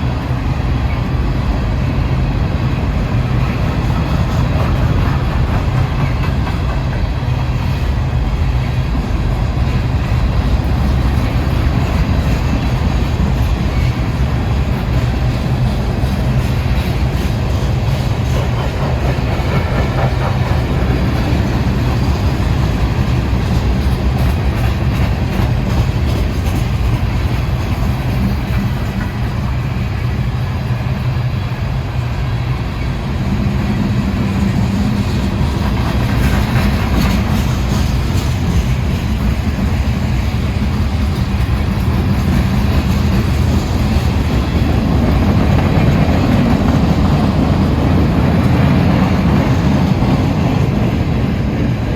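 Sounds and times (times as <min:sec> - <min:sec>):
freight train wheels rumbling: 0:00.0 - 0:51.9
wheels clacking over rail joints: 0:02.7 - 0:51.9.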